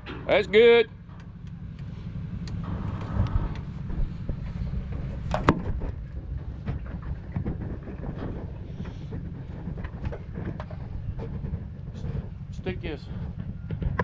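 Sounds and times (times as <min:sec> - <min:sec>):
knocks and clanks: 0:00.0 - 0:14.0
truck engine idling: 0:00.0 - 0:14.0.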